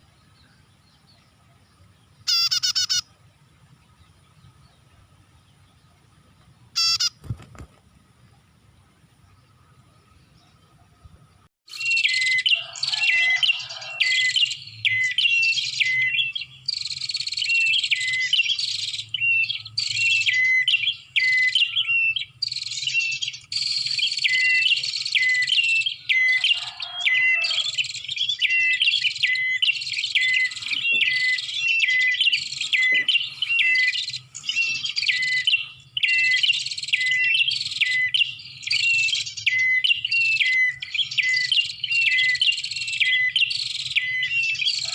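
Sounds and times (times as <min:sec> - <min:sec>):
bird chattering song: 0:00.0 - 0:07.4, 0:08.3 - 0:44.9.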